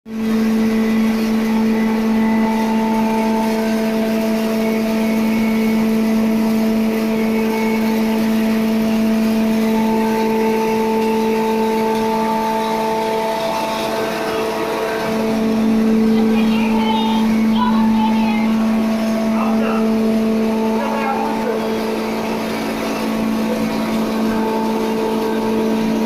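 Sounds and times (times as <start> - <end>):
hammer mill grinding: 0.1 - 26.0.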